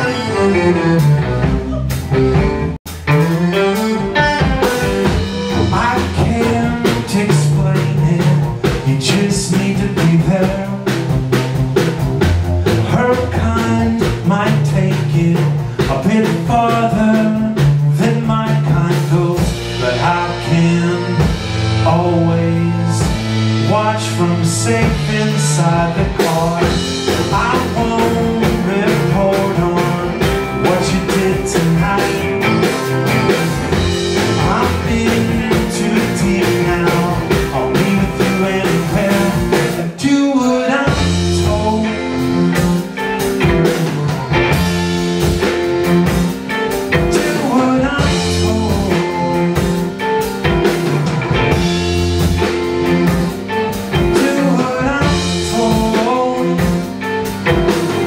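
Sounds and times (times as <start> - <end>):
bass guitar: 0.0 - 58.0
electric guitar: 0.0 - 58.0.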